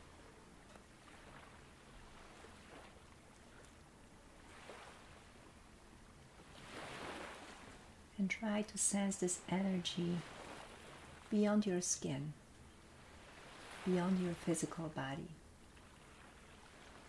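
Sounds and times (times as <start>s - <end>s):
ocean waves washing on shore: 0.0s - 17.0s.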